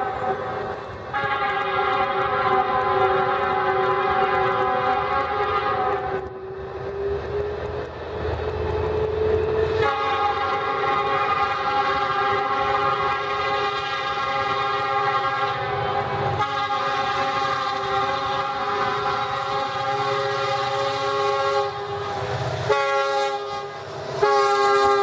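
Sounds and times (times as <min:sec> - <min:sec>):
locomotive air horn blasts: 0:01.1 - 0:06.2, 0:09.8 - 0:25.0.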